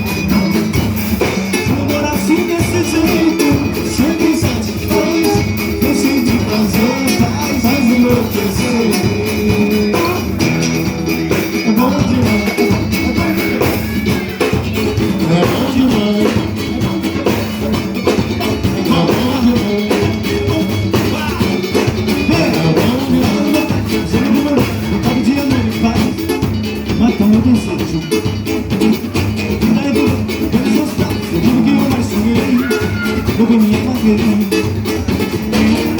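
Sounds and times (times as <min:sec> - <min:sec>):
person singing: 0:00.0 - 0:28.3, 0:29.5 - 0:35.9
live samba band: 0:00.0 - 0:35.9
percussion: 0:00.0 - 0:35.9.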